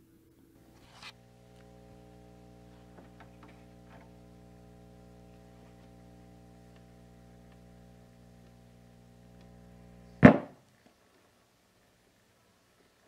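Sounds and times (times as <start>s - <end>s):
faint radio speaker hum: 0.0s - 13.0s.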